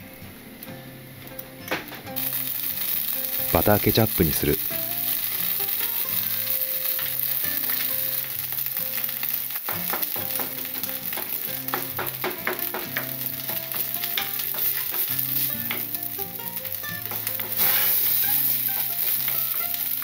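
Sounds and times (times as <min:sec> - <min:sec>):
sauce sizzling in frying pan: 0:02.1 - 0:20.0.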